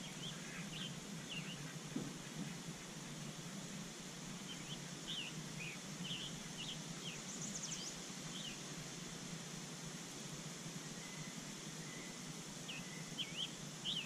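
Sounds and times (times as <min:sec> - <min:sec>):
small birds chirping: 0:00.0 - 0:09.1, 0:10.8 - 0:14.0
steady outdoor hiss: 0:00.0 - 0:14.0.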